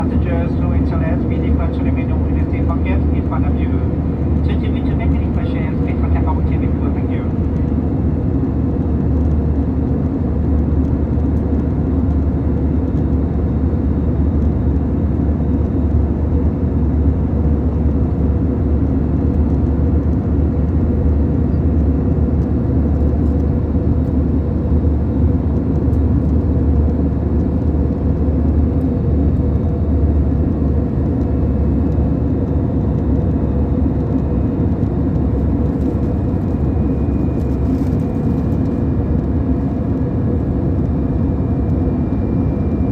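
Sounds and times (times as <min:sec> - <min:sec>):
airplane engine hum: 0:00.0 - 0:42.9.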